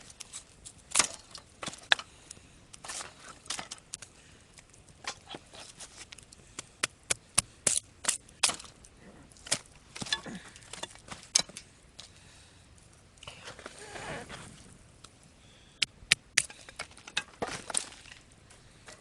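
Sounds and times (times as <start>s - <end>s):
wood cracking and splitting: 0.0s - 12.2s, 15.8s - 19.0s.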